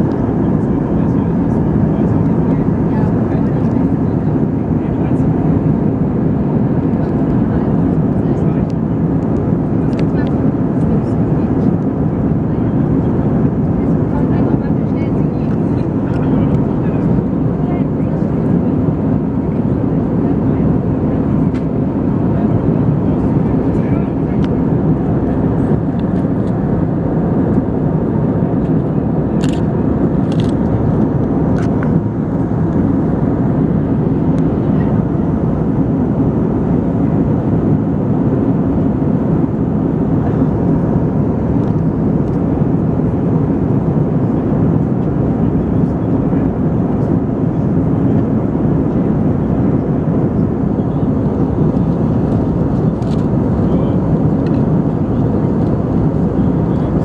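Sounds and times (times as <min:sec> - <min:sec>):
airplane cabin engine rush: 0:00.0 - 0:57.0.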